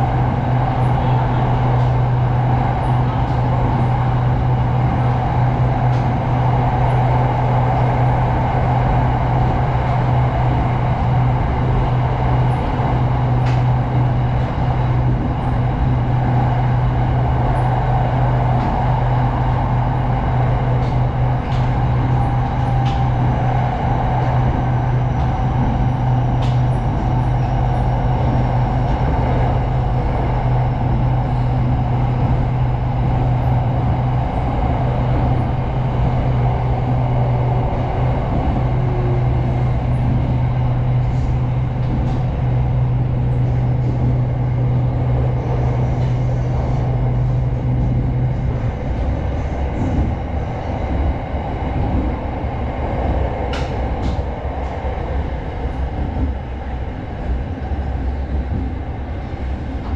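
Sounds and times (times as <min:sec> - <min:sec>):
electric train humming: 0:00.0 - 0:59.9.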